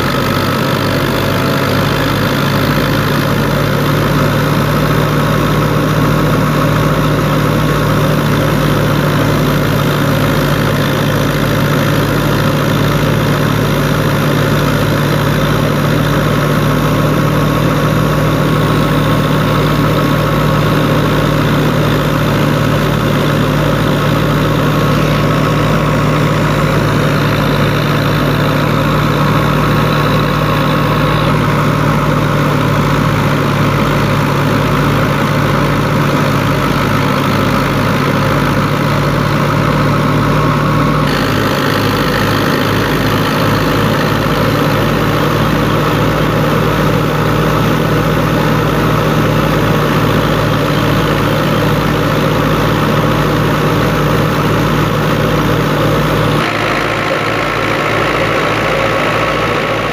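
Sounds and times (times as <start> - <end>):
diesel engine labouring: 0.0 - 59.9
thresher drum running: 0.0 - 59.9.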